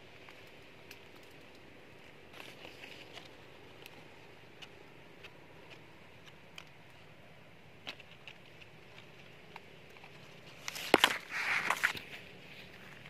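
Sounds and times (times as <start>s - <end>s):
leaves and twigs rustling on camera: 0.0s - 13.0s
quiet outdoor hiss: 0.0s - 13.0s.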